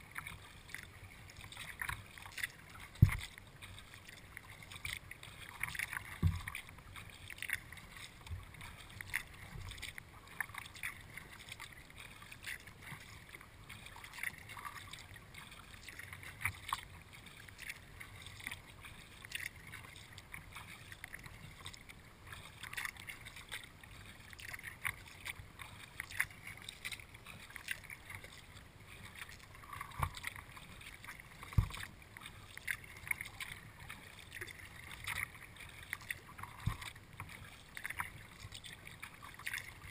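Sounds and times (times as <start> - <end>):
paddle splashing in water: 0.0 - 39.9
water dripping and pattering: 0.0 - 39.9.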